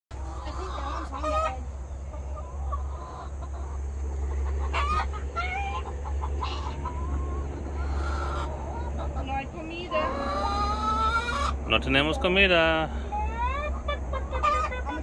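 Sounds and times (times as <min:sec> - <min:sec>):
chickens clucking: 0:00.1 - 0:15.0.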